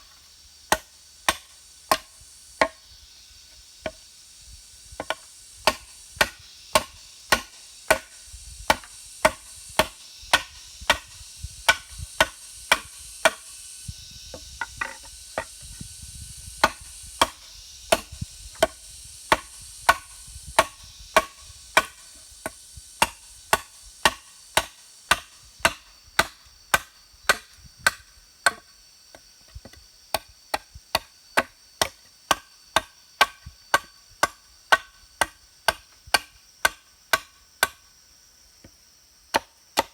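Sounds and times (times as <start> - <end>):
chopping strikes on wood: 0.7 - 2.8, 3.8 - 4.0, 5.0 - 13.5, 16.6 - 28.7, 29.6 - 37.8, 38.6 - 39.9.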